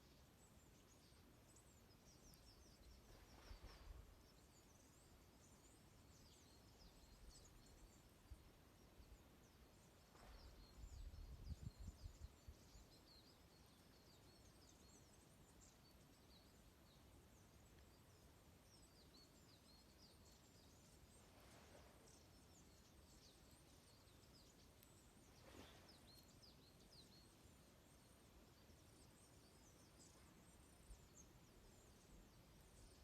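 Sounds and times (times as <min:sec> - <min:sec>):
small birds twittering: 0:00.0 - 0:33.0.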